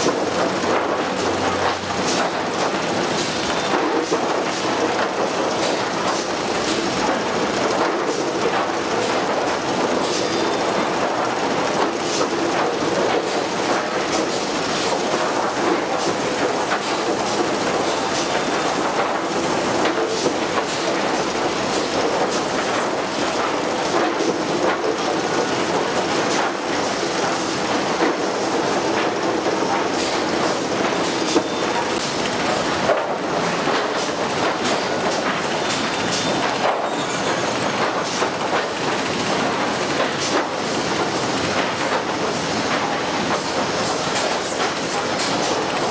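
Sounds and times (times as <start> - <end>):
conveyor machinery din: 0.0 - 45.9.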